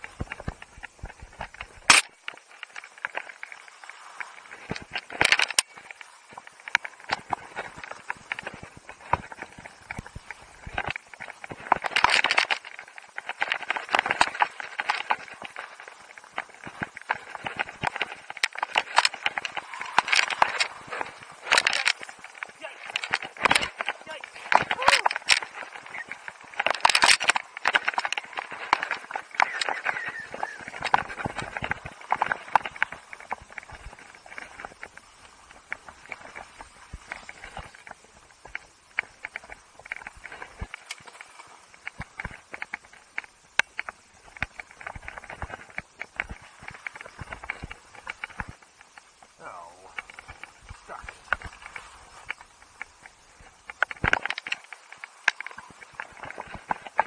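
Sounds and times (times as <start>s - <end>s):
skis clacking on hard snow: 0.0s - 57.0s
skis scraping snow: 0.0s - 57.0s.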